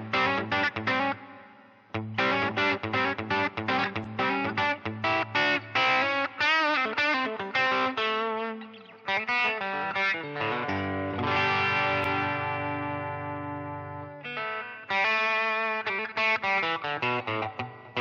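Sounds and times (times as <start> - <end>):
electric guitar solo: 0.0 - 18.0.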